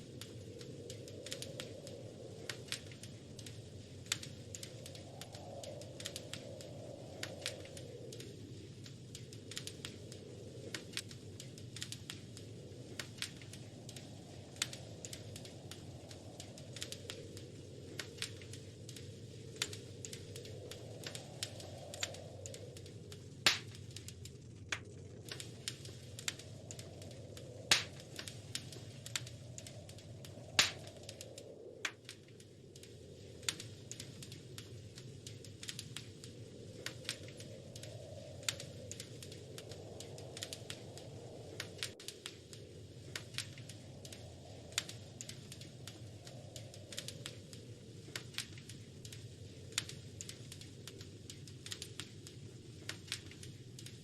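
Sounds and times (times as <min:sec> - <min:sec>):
low rumble of burning fire: 0:00.0 - 0:54.0
steady low background noise: 0:00.0 - 0:54.0
wood fire crackling: 0:00.0 - 0:54.0.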